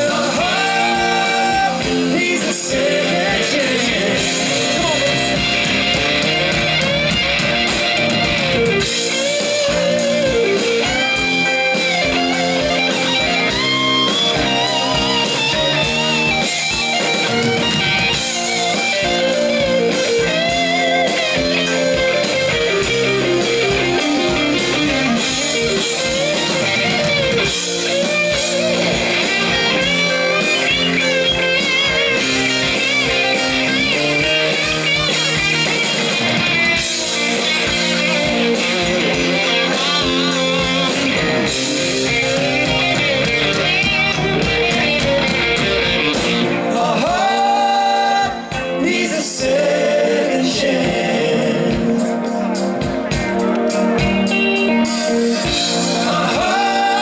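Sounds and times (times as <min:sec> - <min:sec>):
drums: 0:00.0 - 0:57.0
electric guitar with bent notes: 0:00.0 - 0:57.0.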